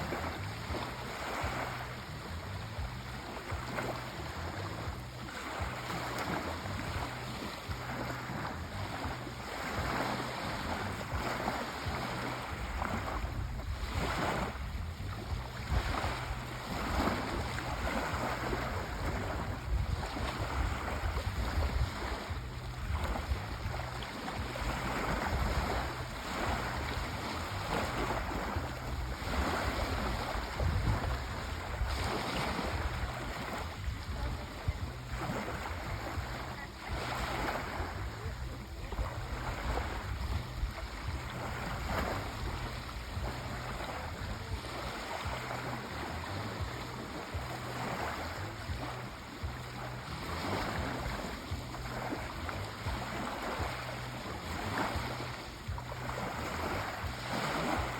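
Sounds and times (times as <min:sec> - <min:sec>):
sea waves surf: 0:00.0 - 0:57.9.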